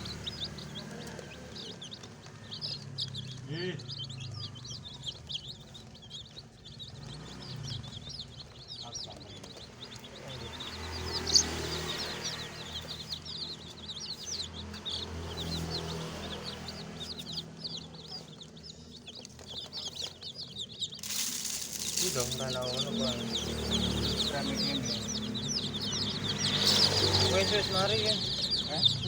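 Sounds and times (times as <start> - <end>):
baby chicks peeping: 0.0 - 29.0.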